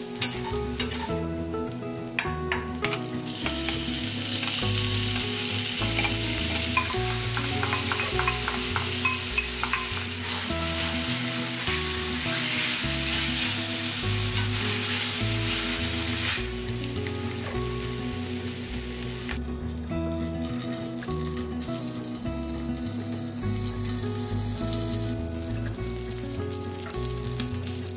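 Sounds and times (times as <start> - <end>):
food sizzling in a pan: 0.0 - 27.9.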